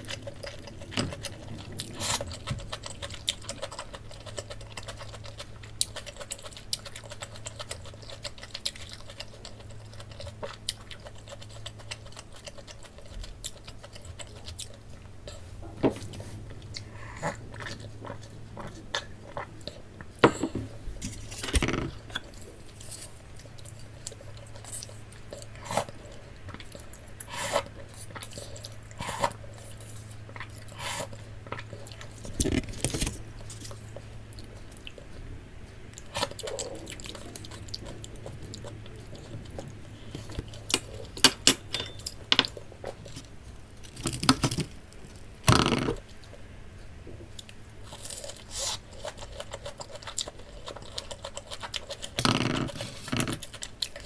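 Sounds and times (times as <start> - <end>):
chewing crunchy fried food: 0.0 - 54.0
faint low hum: 0.0 - 54.0.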